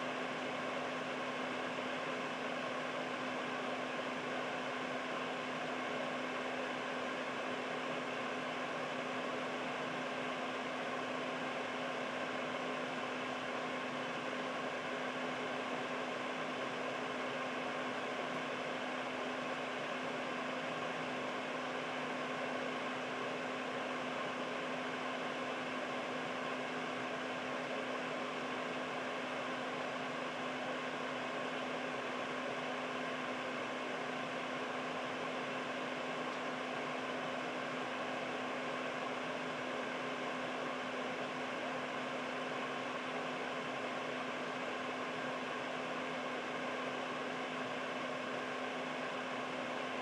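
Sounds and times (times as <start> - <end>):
air purifier fan rushing: 0.0 - 50.0.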